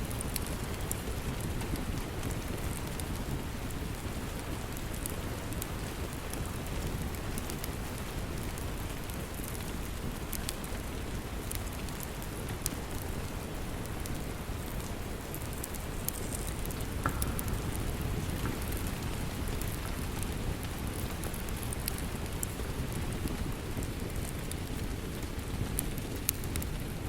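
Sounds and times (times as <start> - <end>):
steady rain: 0.0 - 27.0
wood fire crackling and popping: 0.0 - 27.0.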